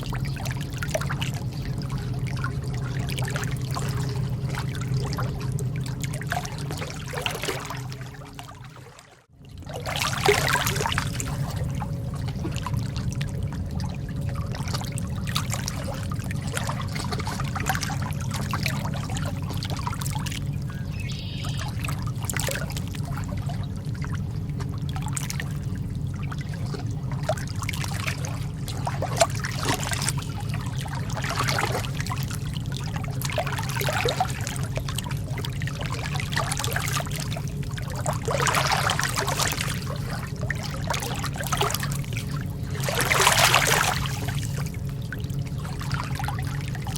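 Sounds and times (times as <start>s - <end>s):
steady low rumble: 0.0s - 46.9s
water lapping against shore: 0.0s - 46.9s.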